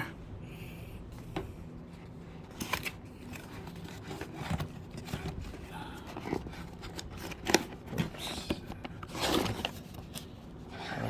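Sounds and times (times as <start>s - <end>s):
box contents handled: 2.0s - 11.0s.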